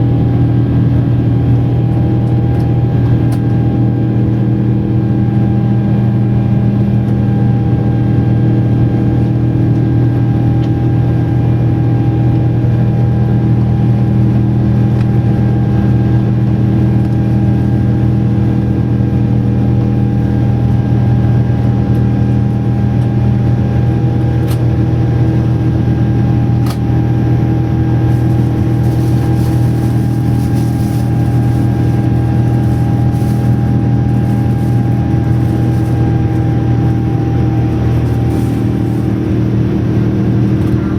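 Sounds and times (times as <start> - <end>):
airliner cabin roar: 0.0 - 40.9
constant low hum: 0.0 - 40.9.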